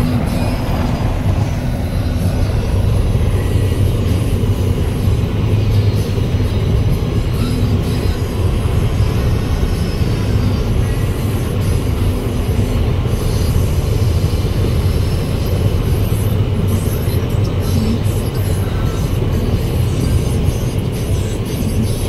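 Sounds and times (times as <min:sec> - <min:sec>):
tyre and road noise: 0:00.0 - 0:22.0
vehicle engine drone: 0:00.0 - 0:22.0.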